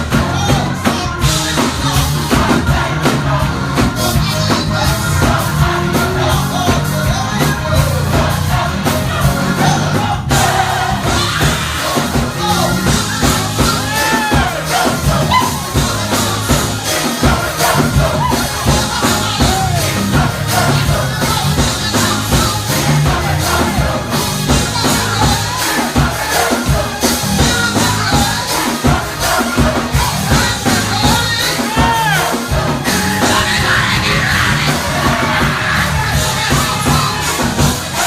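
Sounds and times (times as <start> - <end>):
band with bass and drums: 0.0 - 38.0
choir singing: 0.0 - 38.0
crowd noise: 0.0 - 38.0.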